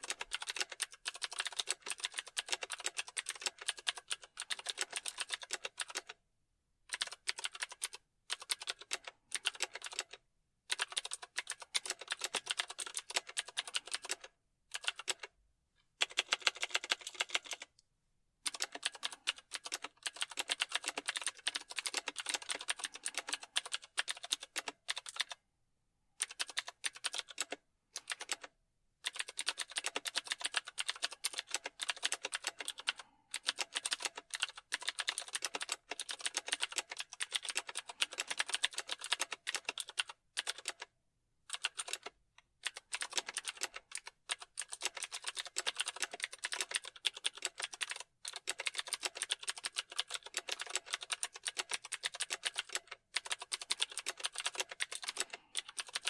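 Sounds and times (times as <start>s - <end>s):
typing on computer keyboard: 0.0s - 6.2s, 6.9s - 15.4s, 16.0s - 17.8s, 18.4s - 25.4s, 26.2s - 56.0s.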